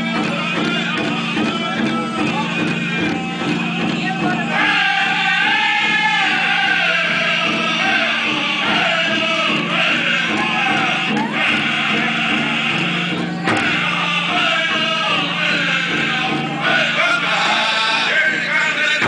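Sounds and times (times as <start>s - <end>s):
big drum beating: 0.0s - 19.0s
chorus of men singing: 0.0s - 19.0s.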